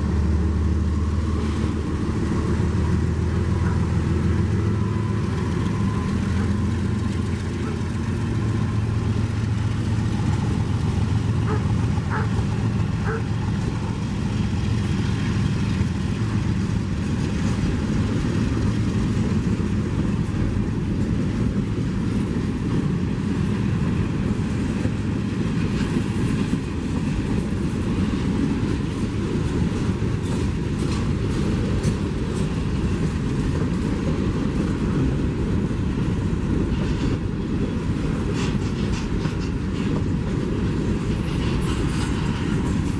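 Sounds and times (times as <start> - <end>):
locomotive engine hum: 0.0 - 42.9
train cars rumbling over rails: 0.0 - 42.9
train wheel clicks: 0.1 - 42.9.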